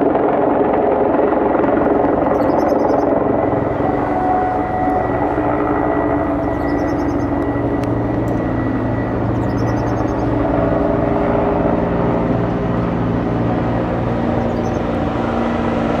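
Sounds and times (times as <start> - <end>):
helicopter engines and rotor: 0.0 - 16.0.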